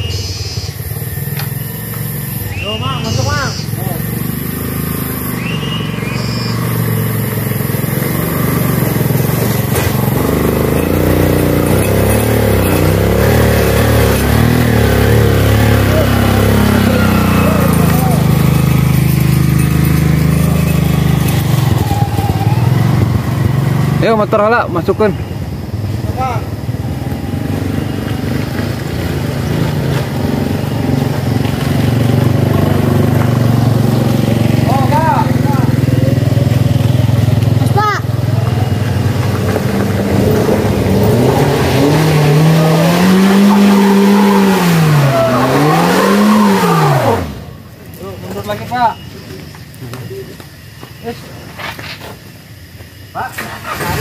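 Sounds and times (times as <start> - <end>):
motor scooter engine labouring: 0.0 - 51.4, 52.9 - 54.0.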